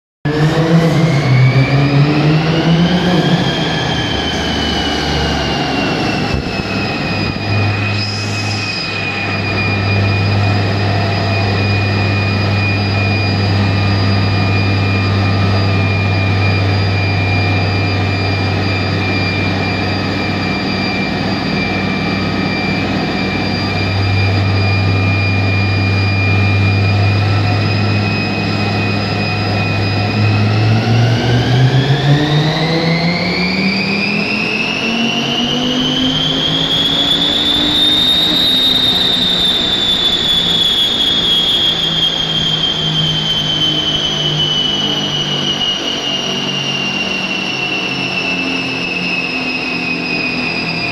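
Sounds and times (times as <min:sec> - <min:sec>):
car engine droning on dyno: 0:00.2 - 0:50.9
high whine: 0:00.2 - 0:50.9.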